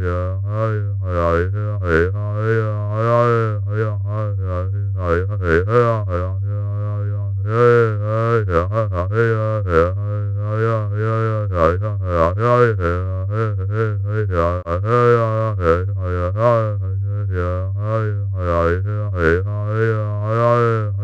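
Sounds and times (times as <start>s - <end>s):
wobbling electronic buzzing drone: 0.0s - 21.0s.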